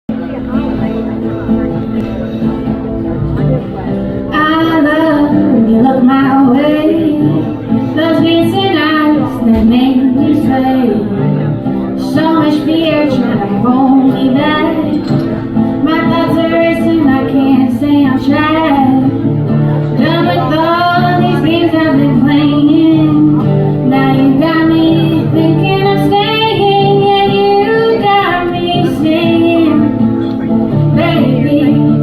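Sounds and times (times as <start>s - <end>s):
acoustic guitar: 0.1s - 32.0s
woman singing: 4.3s - 30.1s, 30.7s - 32.0s.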